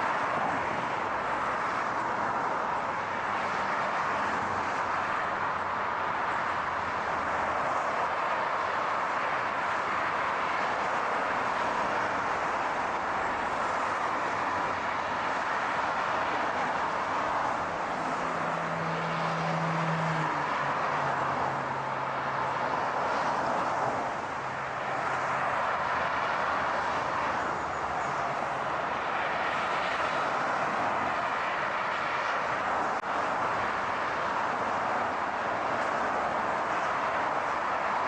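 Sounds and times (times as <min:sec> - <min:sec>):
road and tyre noise: 0:00.0 - 0:38.0.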